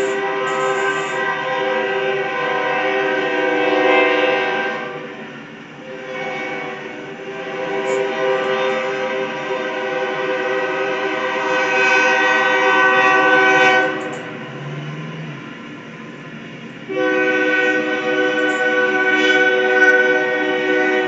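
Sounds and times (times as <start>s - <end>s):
locomotive air horn chord: 0.0s - 15.8s, 16.8s - 21.0s.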